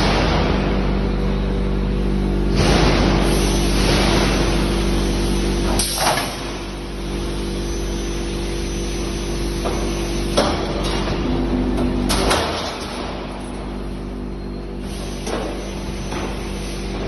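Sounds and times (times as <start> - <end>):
motor hum: 0.0 - 17.0
roll forming machine running: 0.0 - 17.0.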